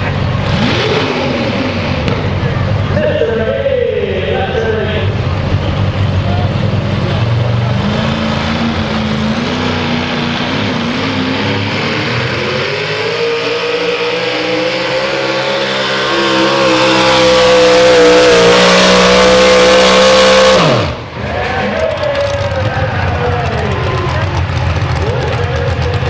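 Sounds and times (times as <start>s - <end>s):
truck engine at full throttle: 0.0s - 26.0s.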